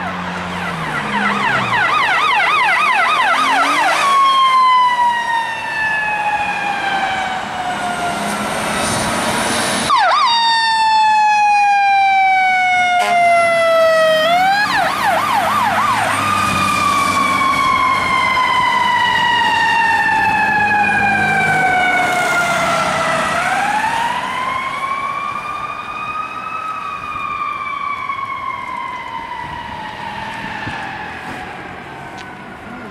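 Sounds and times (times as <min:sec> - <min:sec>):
fire engine siren: 0:00.0 - 0:32.9.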